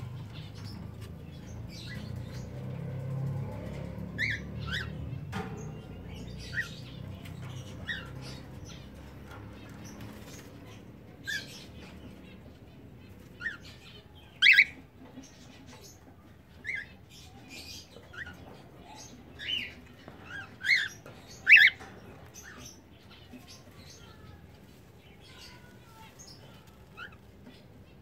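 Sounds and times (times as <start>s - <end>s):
cockatiels chirping: 4.2s - 24.4s, 25.2s - 27.6s.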